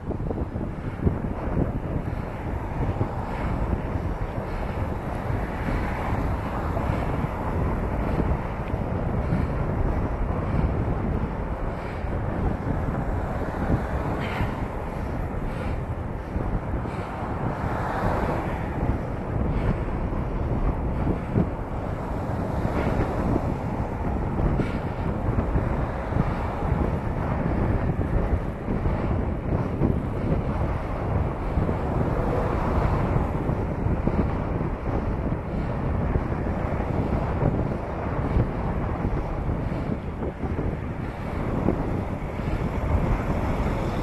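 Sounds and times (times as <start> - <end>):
road traffic: 0.0 - 44.0
wind buffeting microphone: 0.0 - 44.0.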